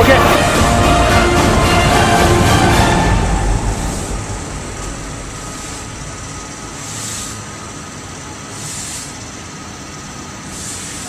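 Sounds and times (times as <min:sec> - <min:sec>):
industrial machinery rumbling: 0:00.0 - 0:11.0.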